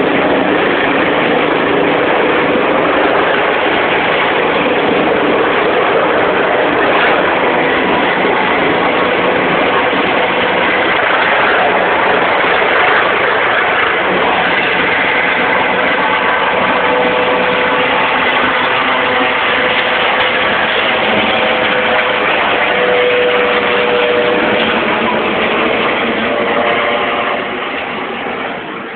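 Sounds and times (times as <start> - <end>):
faint steady whine: 0.0 - 28.9
helicopter engine and rotor: 0.0 - 28.9.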